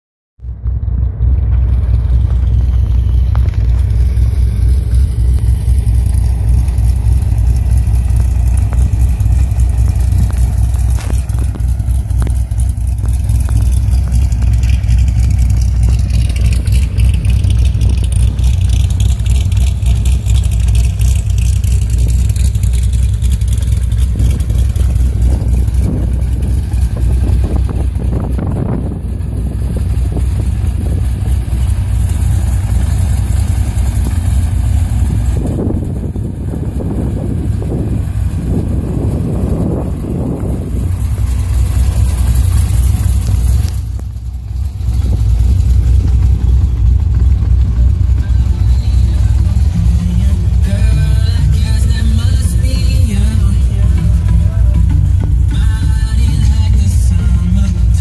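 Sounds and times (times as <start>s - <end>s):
car engine idling: 0.4s - 58.0s.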